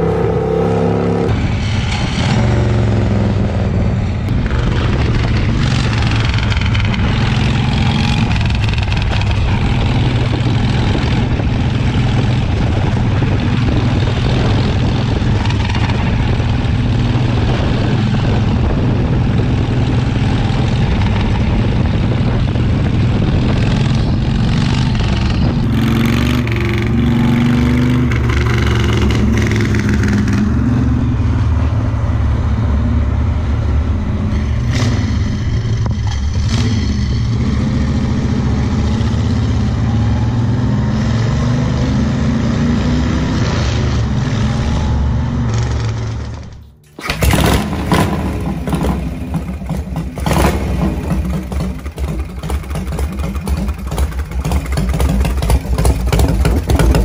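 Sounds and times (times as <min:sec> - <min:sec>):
motorcycle engine running: 0:00.0 - 0:43.0, 0:45.2 - 0:57.0.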